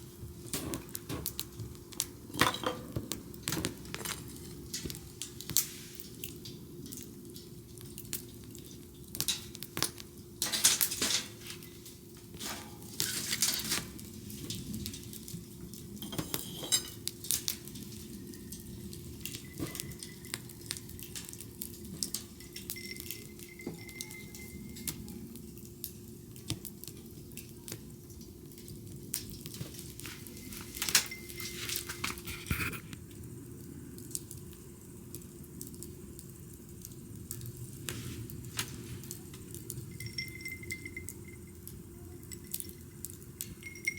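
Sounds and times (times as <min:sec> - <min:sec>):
bonfire crackling: 0:00.0 - 0:43.9
low fire hiss: 0:00.0 - 0:43.9.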